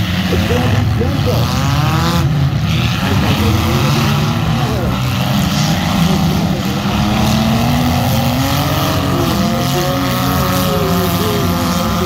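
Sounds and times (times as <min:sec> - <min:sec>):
car engines revving together: 0:00.0 - 0:12.0.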